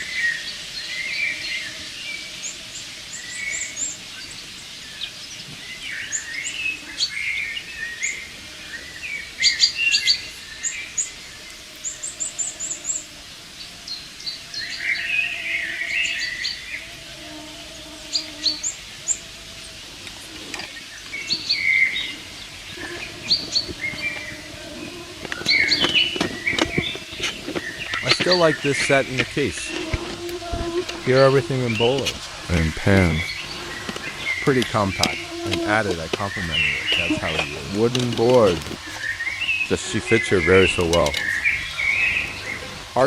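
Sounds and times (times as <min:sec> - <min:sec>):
songbirds singing and chirping: 0:00.0 - 0:43.0.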